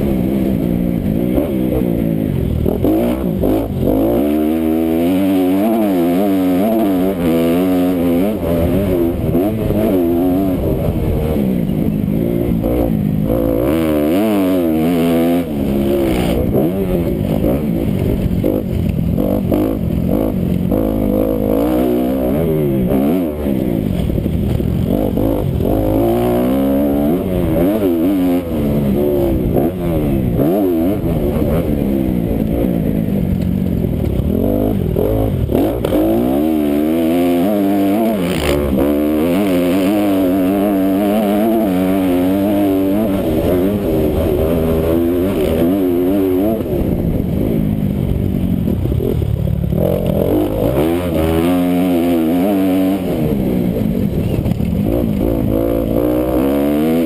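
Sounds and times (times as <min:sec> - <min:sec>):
wind noise: 0:00.0 - 0:51.5
motocross engine revving: 0:00.0 - 0:57.0.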